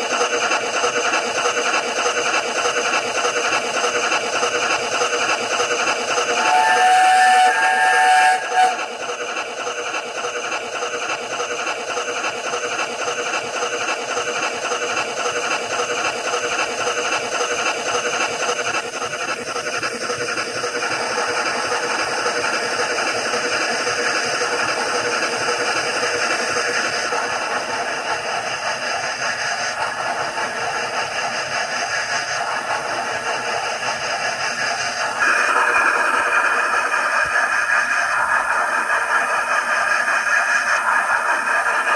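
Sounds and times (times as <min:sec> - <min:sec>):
steam locomotive running sound: 0:00.0 - 0:41.9.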